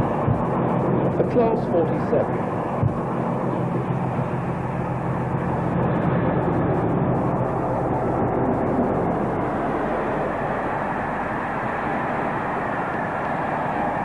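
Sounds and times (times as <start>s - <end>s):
diesel locomotive engine rumble: 0.0s - 14.0s.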